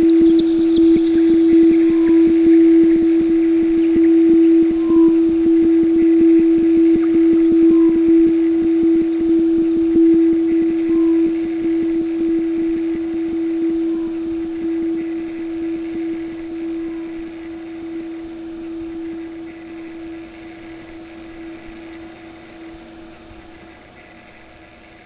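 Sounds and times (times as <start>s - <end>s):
steady drone: 0.0s - 22.5s.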